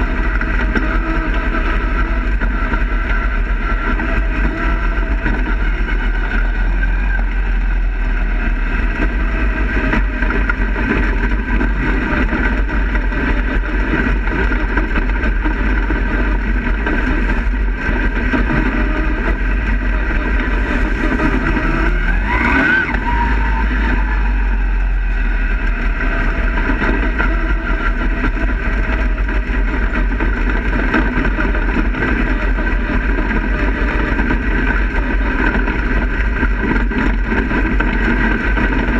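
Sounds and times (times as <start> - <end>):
race car engine running loudly: 0.0 - 38.9
road and wind noise: 0.0 - 38.9.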